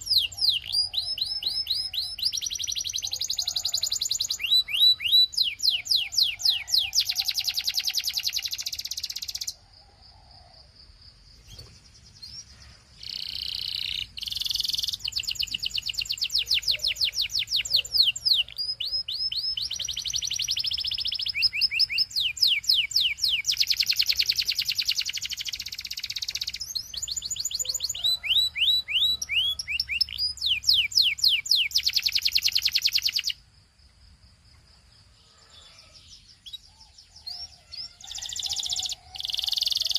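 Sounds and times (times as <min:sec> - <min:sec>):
canary singing trills: 0:00.0 - 0:09.7, 0:11.4 - 0:33.4, 0:35.1 - 0:39.9.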